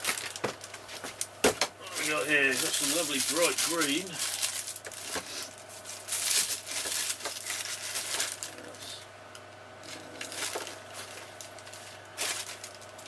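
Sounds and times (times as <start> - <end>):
plastic tubing rustling and crinkling: 0.0 - 9.0, 9.8 - 13.0.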